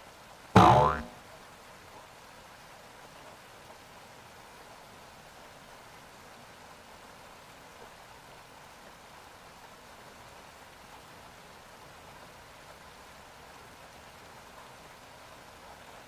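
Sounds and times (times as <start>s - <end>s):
faint flowing water: 0.0s - 16.0s.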